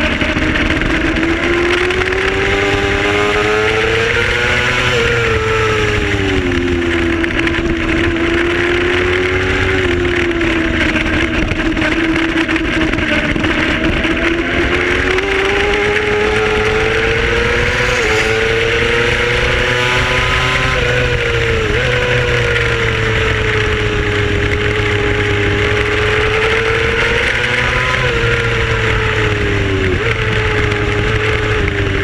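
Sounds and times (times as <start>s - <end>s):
motorcycle engine at high revs: 0.0s - 32.0s
wind noise: 0.0s - 32.0s.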